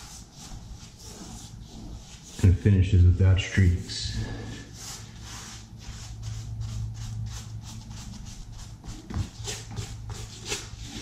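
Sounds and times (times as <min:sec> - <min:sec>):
paintbrush rubbing on wall: 0:00.0 - 0:03.0, 0:03.9 - 0:11.0.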